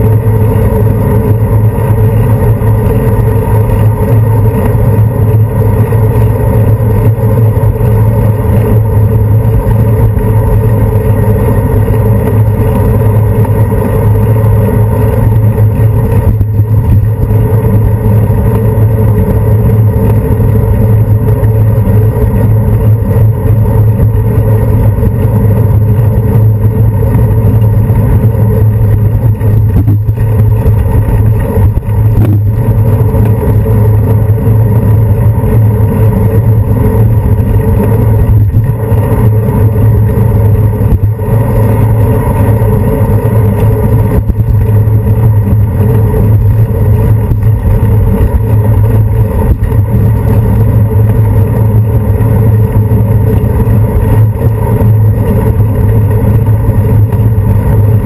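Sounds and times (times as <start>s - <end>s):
bicycle rumble on road: 0.0s - 58.0s
wind: 0.0s - 58.0s.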